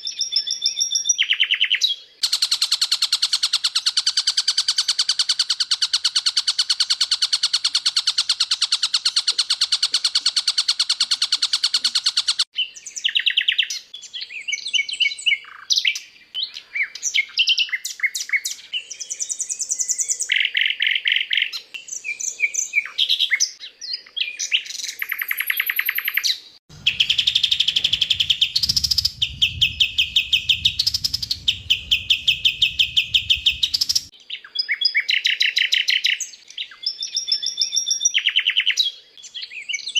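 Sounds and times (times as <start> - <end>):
bird chirps and whistles: 0.0 - 39.9
songbird trills: 0.0 - 39.9.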